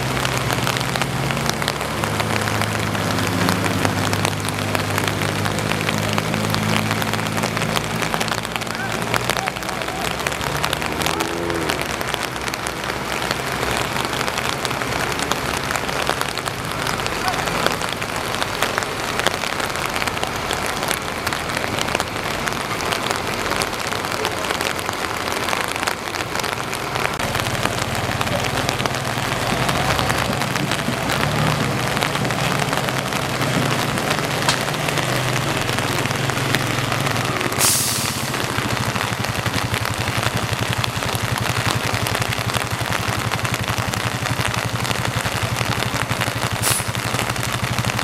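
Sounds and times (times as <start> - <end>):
rain pattering: 0.0 - 48.0.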